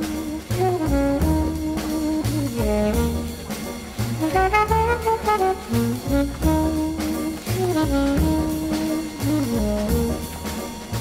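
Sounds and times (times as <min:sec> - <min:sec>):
low bass line: 0:00.0 - 0:10.4
jazz brass melody: 0:00.0 - 0:11.0.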